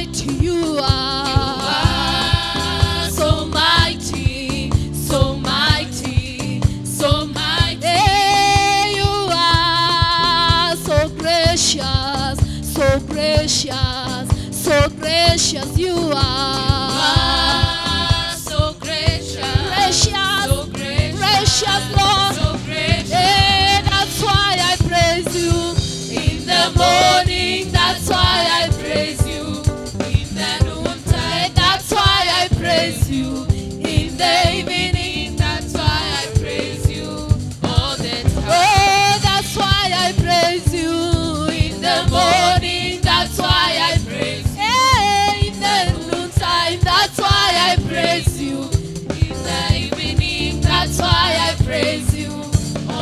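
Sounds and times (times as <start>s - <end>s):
woman singing with vibrato: 0.0s - 29.6s, 36.9s - 53.0s
band with drum beat: 0.0s - 53.0s
backing singers: 0.7s - 11.0s, 14.6s - 53.0s.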